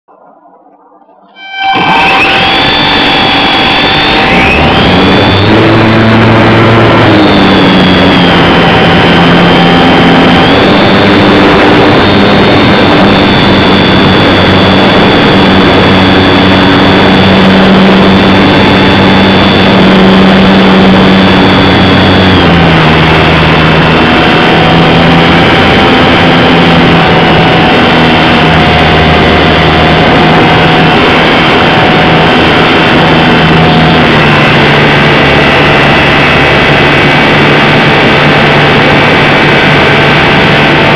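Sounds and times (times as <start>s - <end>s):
wind rushing noise: 0.1s - 40.9s
model plane motor whine: 1.4s - 40.9s.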